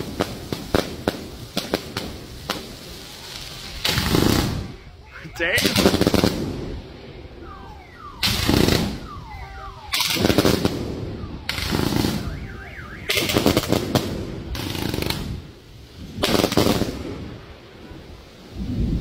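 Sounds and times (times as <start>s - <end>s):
fireworks bursting with crackle: 0.0s - 19.0s.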